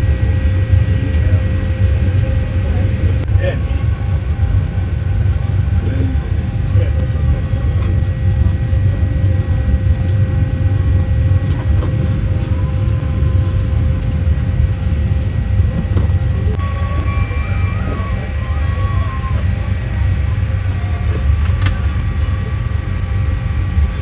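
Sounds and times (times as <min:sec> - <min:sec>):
faint steady tones: 0:00.0 - 0:24.0
low rumble of vehicle interior: 0:00.0 - 0:24.0.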